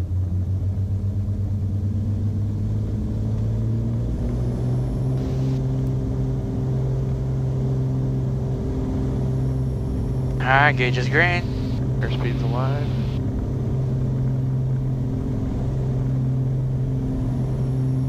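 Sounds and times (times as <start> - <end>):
twin propeller engines at takeoff power: 0.0 - 18.0.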